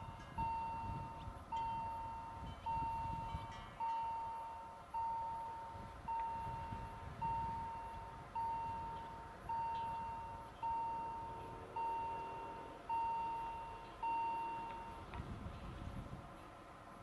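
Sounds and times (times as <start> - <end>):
level crossing bell ringing: 0.4 - 15.0.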